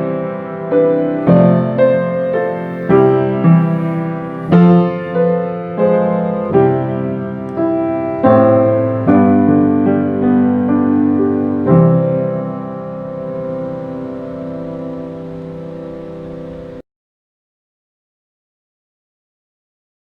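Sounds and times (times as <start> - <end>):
piano playing soft chords: 0.0 - 16.8.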